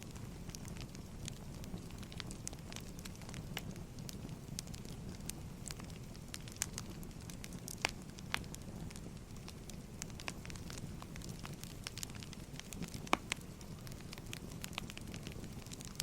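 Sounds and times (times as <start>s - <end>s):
firewood burning and crackling: 0.0s - 16.0s.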